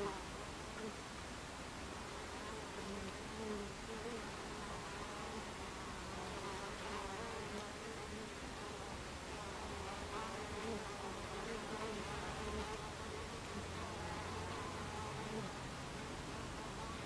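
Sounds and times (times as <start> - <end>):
bees buzzing: 2.2 - 17.0.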